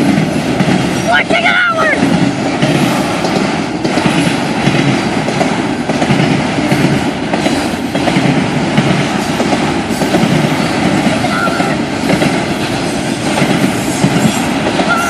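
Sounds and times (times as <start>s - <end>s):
freight train rumbling past: 0.0s - 15.0s
wheels clacking over rail joints: 0.0s - 15.0s.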